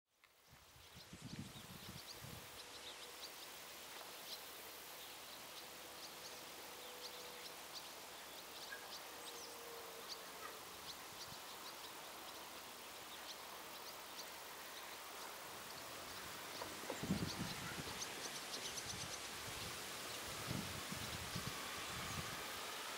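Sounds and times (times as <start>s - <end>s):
faint hiss: 0.2s - 22.9s
small birds chirping: 0.2s - 22.9s.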